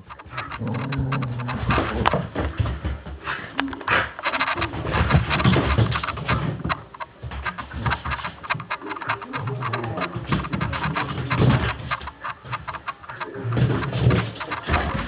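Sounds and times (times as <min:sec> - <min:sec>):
dog paws and claws clicking on floor: 0:00.0 - 0:15.0.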